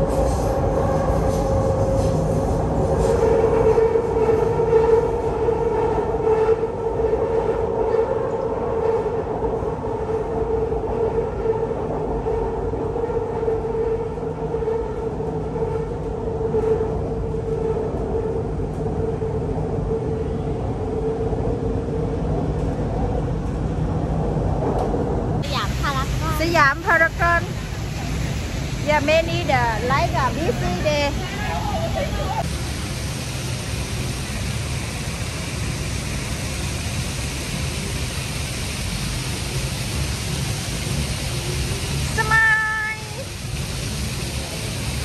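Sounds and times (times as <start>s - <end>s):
train wheels rumbling on rails: 0.0s - 45.0s
train whine: 0.0s - 45.0s.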